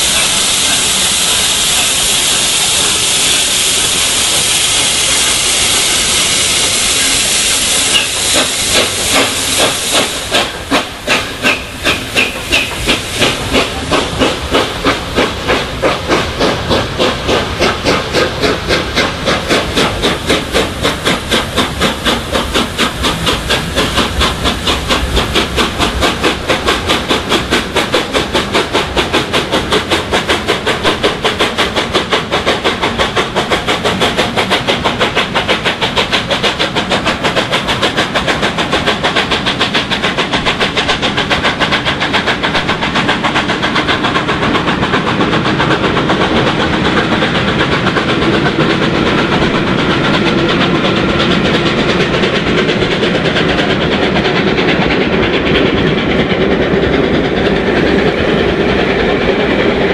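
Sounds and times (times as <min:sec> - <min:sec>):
steam hissing: 0:00.0 - 0:59.9
steam locomotive exhaust beats: 0:00.0 - 0:59.9.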